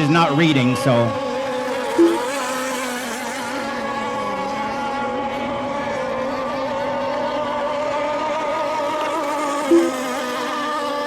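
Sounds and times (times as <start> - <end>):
model boat motors humming: 0.0 - 11.0.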